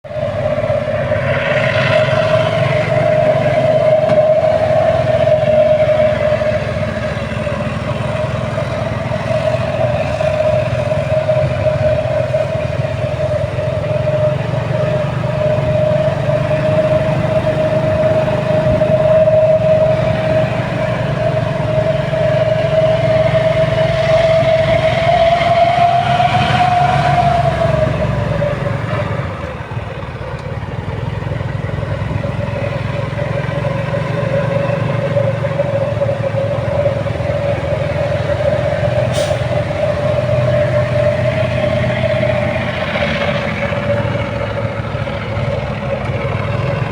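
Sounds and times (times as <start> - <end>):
diesel engine rumble: 0.0 - 46.9
high machinery whine: 0.1 - 46.9.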